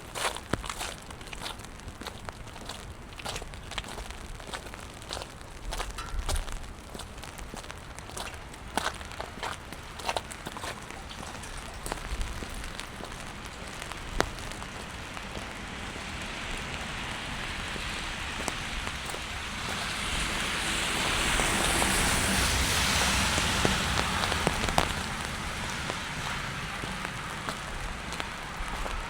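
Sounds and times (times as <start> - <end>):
rain on wet pavement: 0.0 - 29.0.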